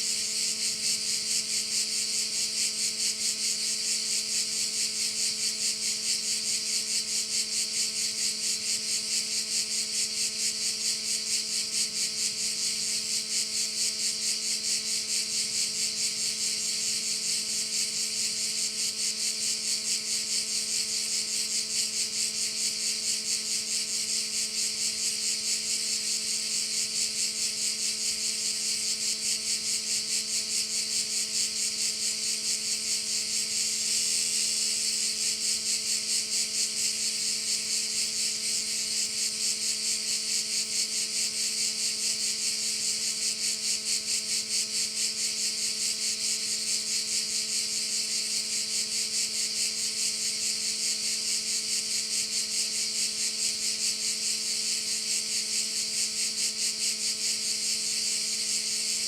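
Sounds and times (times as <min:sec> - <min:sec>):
cicadas shrilling: 0:00.0 - 0:59.0.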